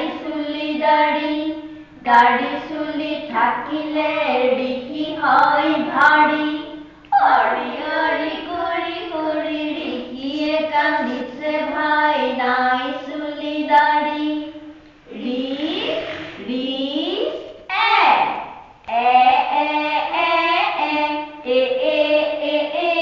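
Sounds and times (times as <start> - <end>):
child chanting a melody: 0.0 - 23.0.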